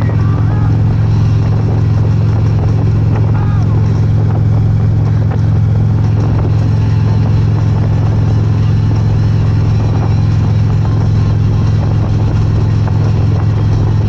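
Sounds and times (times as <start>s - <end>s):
motorcycle engine droning: 0.0s - 14.0s
road noise: 0.0s - 14.0s
wind noise: 0.0s - 14.0s.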